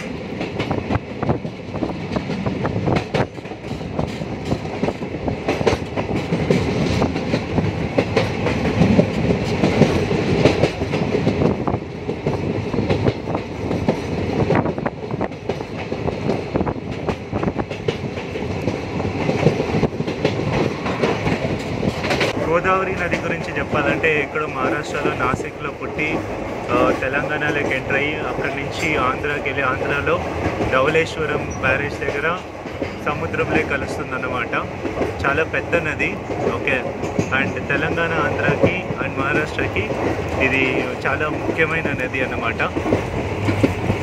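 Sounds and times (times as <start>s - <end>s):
train rumble: 0.0s - 44.0s
wheels clacking over rail joints: 0.0s - 44.0s.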